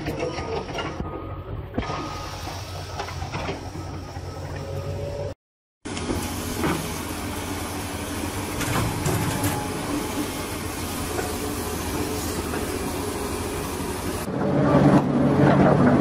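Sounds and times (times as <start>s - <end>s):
excavator diesel engine running: 0.0s - 5.3s, 5.9s - 16.0s.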